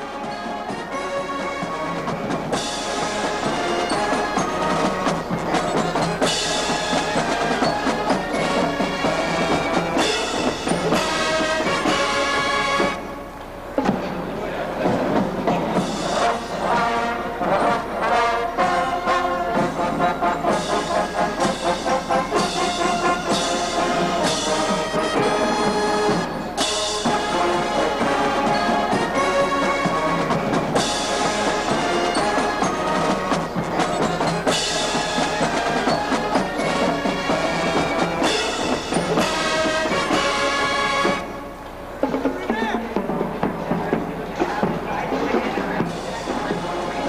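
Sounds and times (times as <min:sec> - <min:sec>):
brass section playing: 0:00.0 - 0:13.3, 0:14.5 - 0:47.0
drums beating time: 0:00.0 - 0:47.0.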